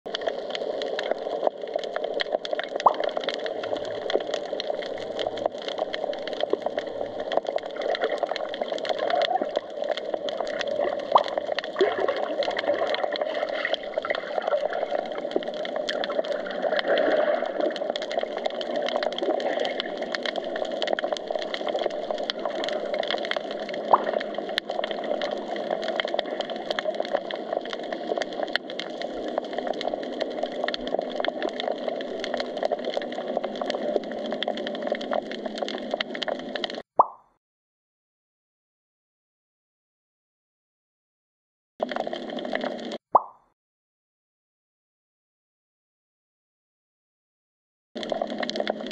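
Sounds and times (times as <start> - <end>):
crackle of small clicks: 0.1 - 37.3, 41.8 - 43.5, 48.0 - 48.9.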